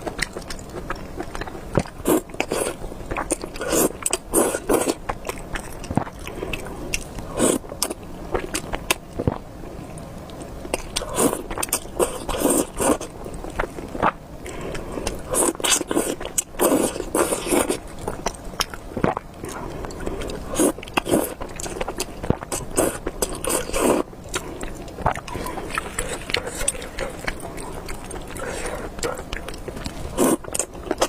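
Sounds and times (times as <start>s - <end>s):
wet chewing of noodles: 0.0s - 31.0s.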